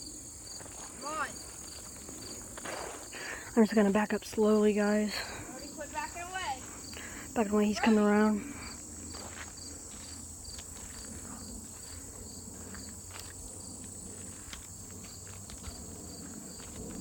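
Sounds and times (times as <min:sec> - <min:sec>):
insect chirps: 0:00.0 - 0:17.0
insects droning: 0:00.0 - 0:17.0.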